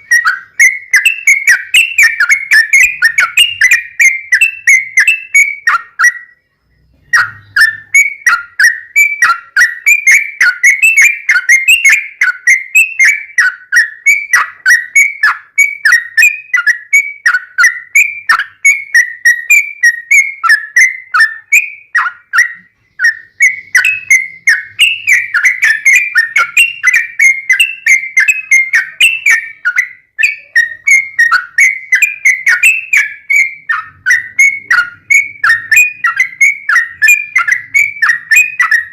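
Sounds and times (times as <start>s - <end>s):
bulbul singing whistled notes: 0.0s - 38.9s.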